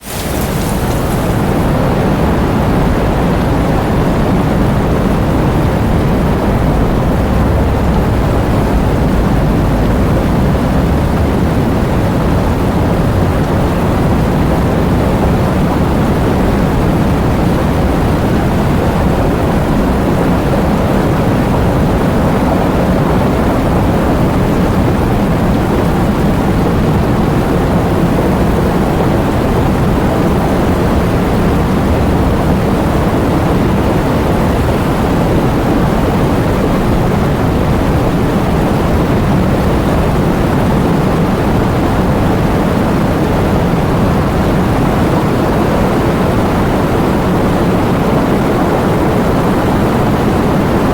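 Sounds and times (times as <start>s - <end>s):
heavy rain: 0.0s - 50.9s
strong wind: 0.0s - 50.9s.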